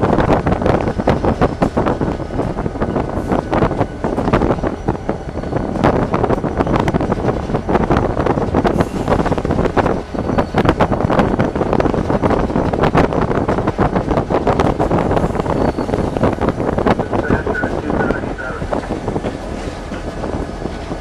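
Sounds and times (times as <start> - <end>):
locomotive diesel engine running: 0.0 - 21.0
wheel and track noise: 0.0 - 21.0
wind buffeting microphone: 0.0 - 21.0.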